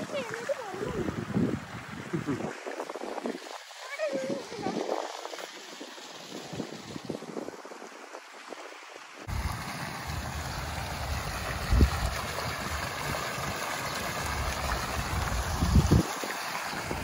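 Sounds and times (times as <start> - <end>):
fountain jets splashing into basin: 0.0 - 17.0
wind buffeting microphone: 0.0 - 17.0.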